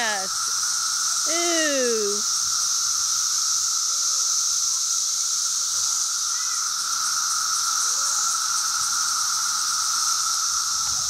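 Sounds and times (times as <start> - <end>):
cicada chorus drone: 0.0 - 11.0.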